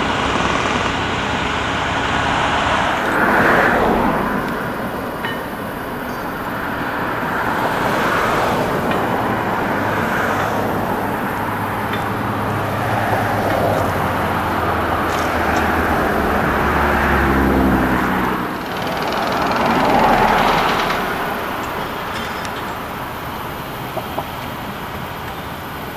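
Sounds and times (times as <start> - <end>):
heavy engine running low: 0.0 - 25.9
road traffic passing: 0.0 - 25.9.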